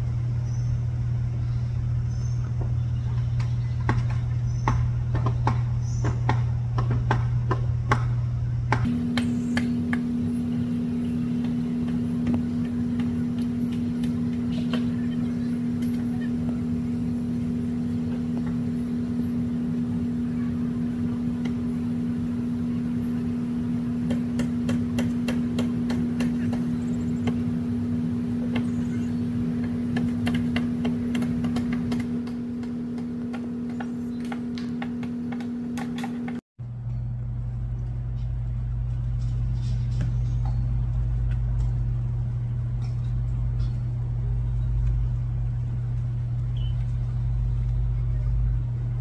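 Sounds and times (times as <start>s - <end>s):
moving vehicle drone: 0.0s - 49.0s.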